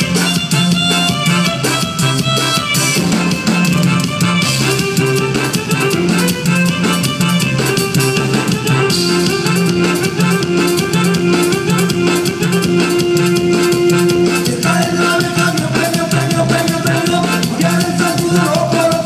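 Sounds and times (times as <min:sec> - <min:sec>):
band playing: 0:00.0 - 0:19.0
drums: 0:00.0 - 0:19.0
electric bass line: 0:00.0 - 0:19.0.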